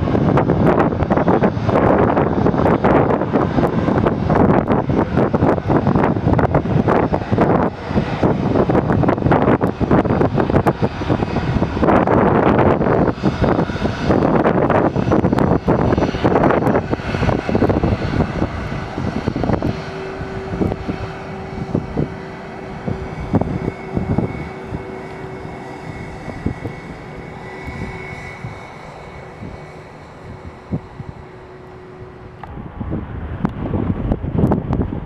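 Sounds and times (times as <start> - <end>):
airliner engines passing: 0.0 - 35.0
engine whine: 0.0 - 35.0.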